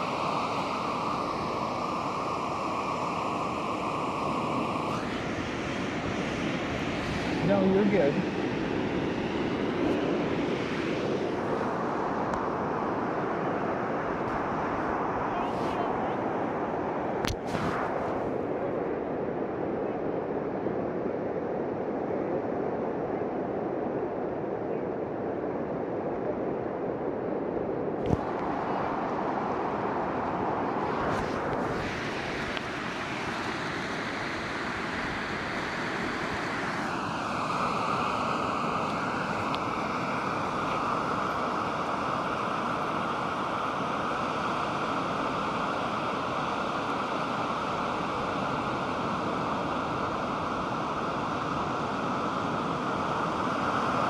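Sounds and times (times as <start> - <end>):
ocean waves breaking: 0.0 - 18.6, 28.0 - 54.0.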